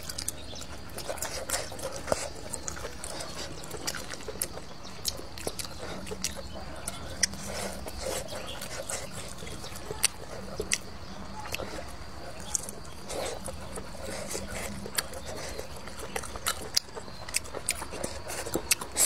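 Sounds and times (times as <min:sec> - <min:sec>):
mouth clicks and smacks: 0:00.0 - 0:19.0
wet chewing: 0:00.0 - 0:19.0.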